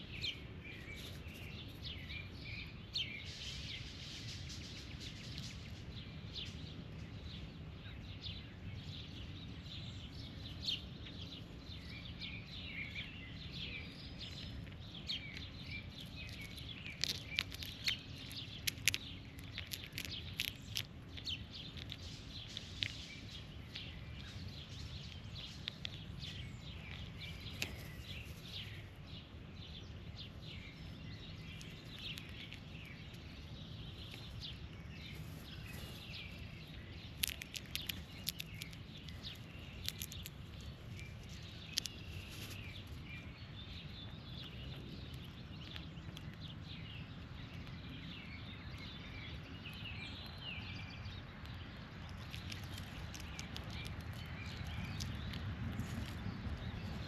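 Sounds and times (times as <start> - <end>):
birds chirping and calling: 0.0 - 57.0
low background rumble: 0.0 - 57.0.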